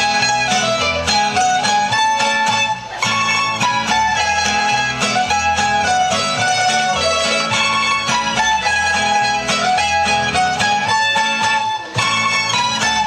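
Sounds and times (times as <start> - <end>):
folk music on plucked strings: 0.0 - 13.0.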